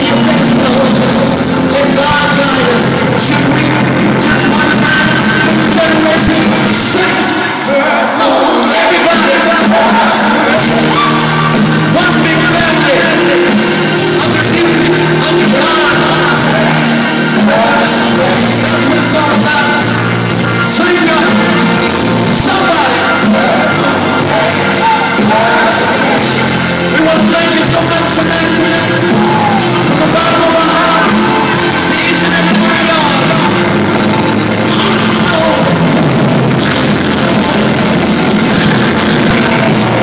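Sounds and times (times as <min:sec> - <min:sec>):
live rock music: 0:00.0 - 0:40.0
audience singing along: 0:02.5 - 0:40.0.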